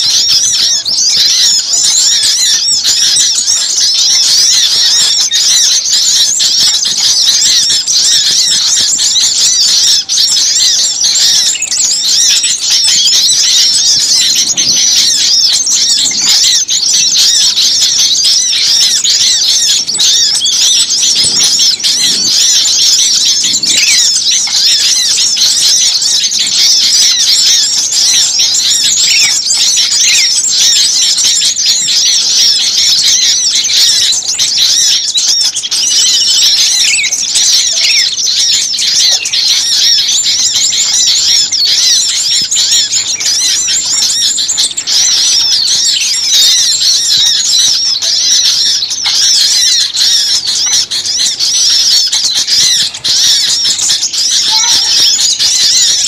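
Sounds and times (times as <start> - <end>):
small songbirds chirping chorus: 0.0 - 56.0.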